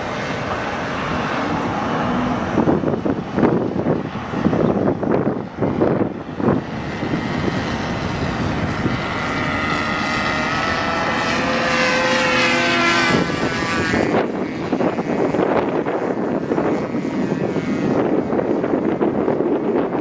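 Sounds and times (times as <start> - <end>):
model plane engine flying past: 0.0 - 20.0
wind buffeting microphone: 0.0 - 20.0.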